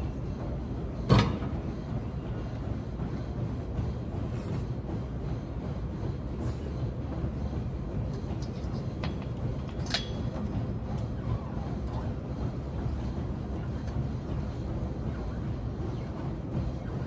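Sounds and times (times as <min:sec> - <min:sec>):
low rumbling gym hall noise: 0:00.0 - 0:17.0.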